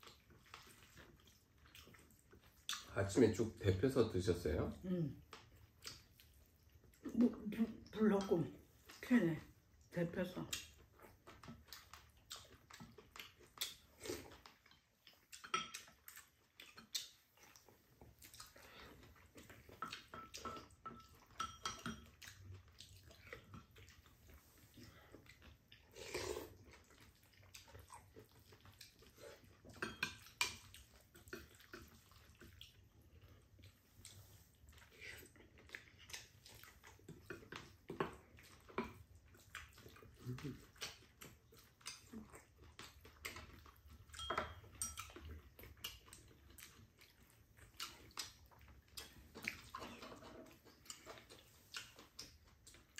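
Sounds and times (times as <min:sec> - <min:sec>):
chewing: 0:00.0 - 0:52.9.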